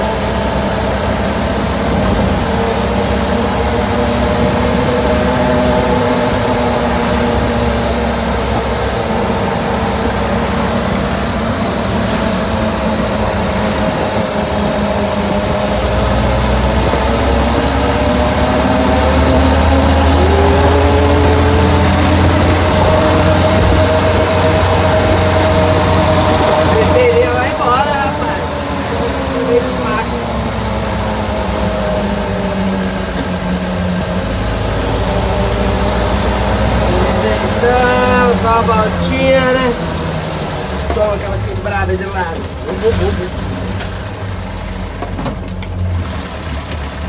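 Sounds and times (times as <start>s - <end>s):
buggy engine running: 0.0s - 47.0s.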